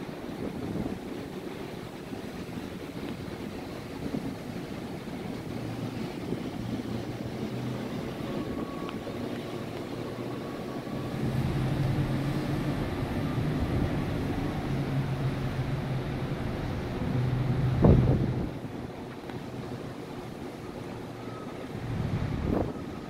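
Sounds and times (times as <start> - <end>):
boat engine hum: 0.0 - 23.0
rushing water: 0.0 - 23.0
wind: 0.0 - 23.0.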